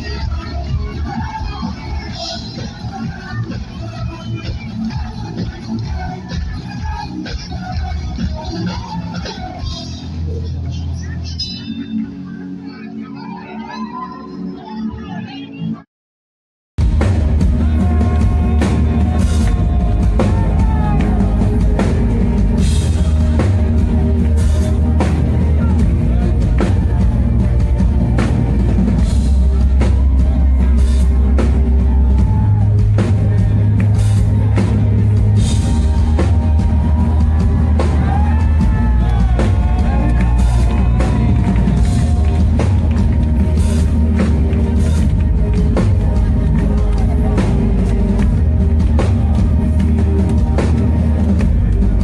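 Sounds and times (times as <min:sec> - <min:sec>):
loud rock music: 0:00.0 - 0:15.4, 0:16.8 - 0:52.0.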